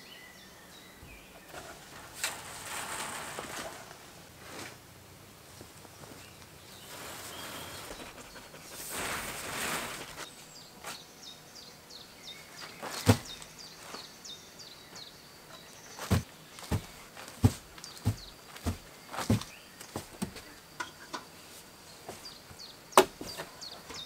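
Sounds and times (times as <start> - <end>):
rustling hiss: 0.0 - 24.0.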